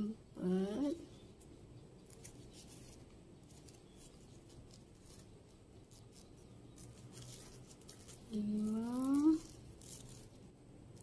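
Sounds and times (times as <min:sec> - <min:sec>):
crochet hook scratchy rustles: 0:00.9 - 0:11.0.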